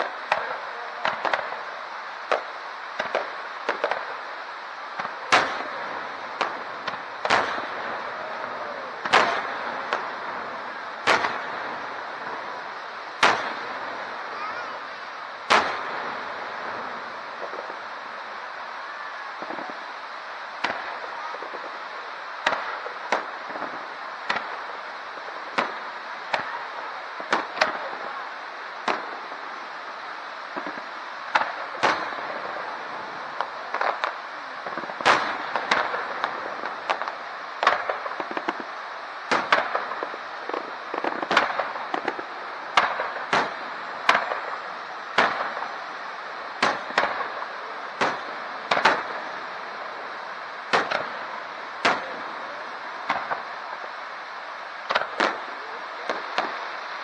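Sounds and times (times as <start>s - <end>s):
fireworks shells bursting: 0.0s - 18.4s, 20.5s - 28.0s, 30.5s - 54.0s
steady background noise: 0.0s - 57.0s.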